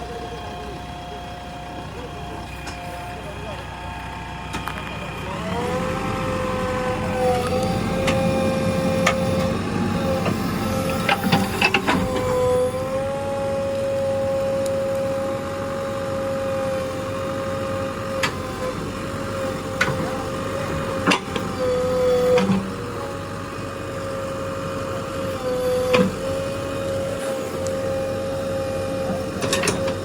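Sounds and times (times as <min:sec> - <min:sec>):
backhoe high-pitched whine: 0:00.0 - 0:30.0.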